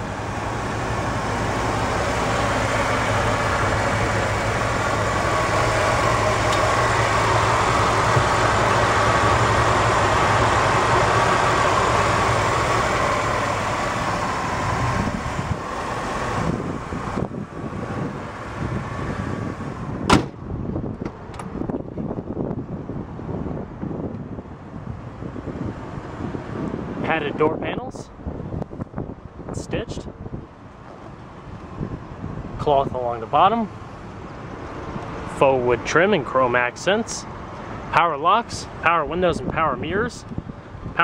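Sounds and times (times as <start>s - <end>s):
car engine idling: 0.0s - 27.2s, 30.1s - 41.0s.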